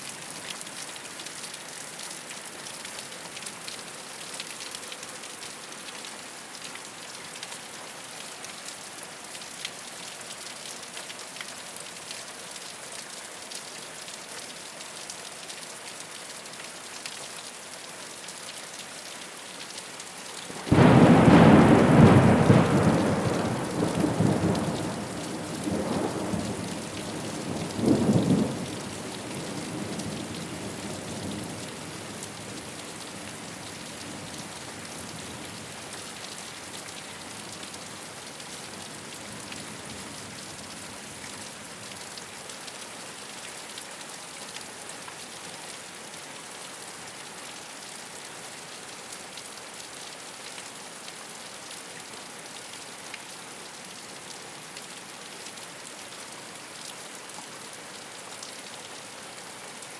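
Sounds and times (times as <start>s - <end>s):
rain on a rooftop: 0.0s - 59.9s.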